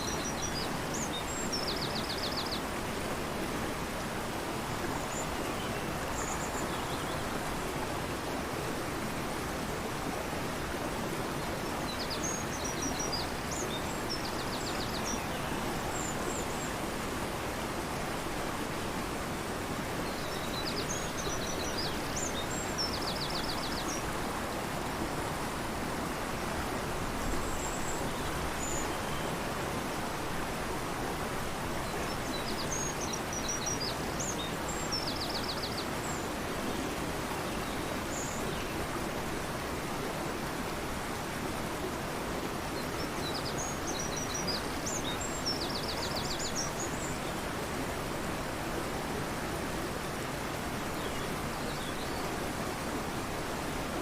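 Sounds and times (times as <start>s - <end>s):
fast-flowing river rushing: 0.0s - 54.0s.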